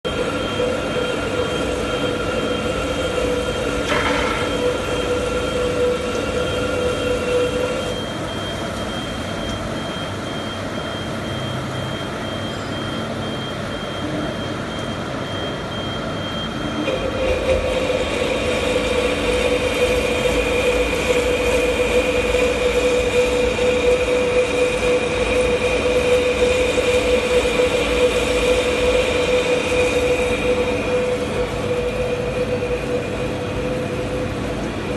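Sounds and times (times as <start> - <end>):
lathe machine hum: 0.0 - 34.9
lathe whining: 0.1 - 10.8, 15.6 - 34.9.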